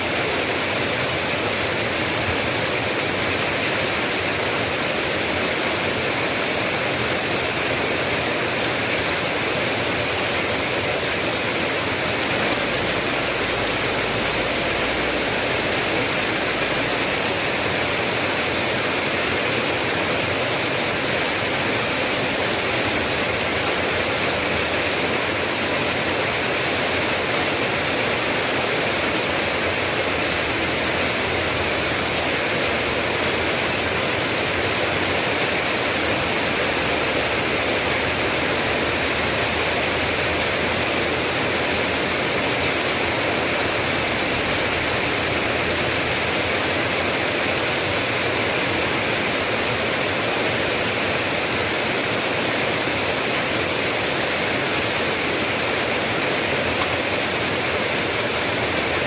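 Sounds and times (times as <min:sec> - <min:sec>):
heavy rain hiss: 0:00.0 - 0:59.0.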